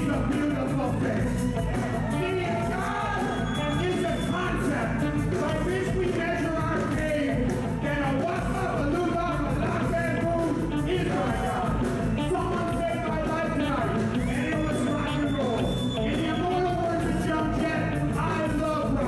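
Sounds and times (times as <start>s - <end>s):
man singing into a microphone: 0.0s - 19.0s
rock band playing live: 0.0s - 19.0s.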